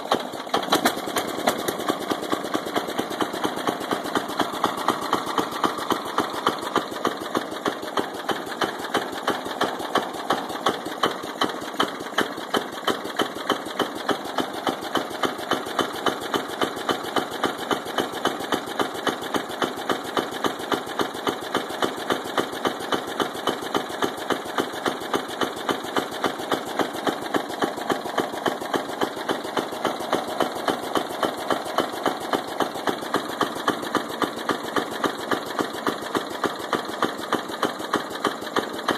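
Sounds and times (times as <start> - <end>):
engine rod knock: 0.0 - 38.9
lawn tractor engine running: 0.0 - 38.9.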